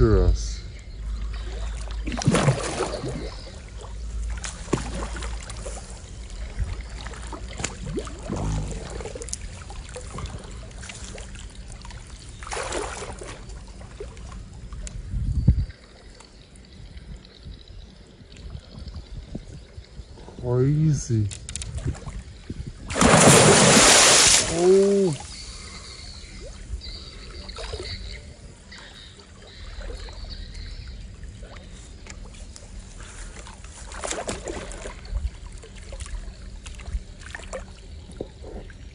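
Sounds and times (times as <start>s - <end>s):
steady low rumble: 0.0s - 12.5s, 13.2s - 38.9s
water splashing and sloshing: 1.0s - 20.0s, 21.3s - 38.9s.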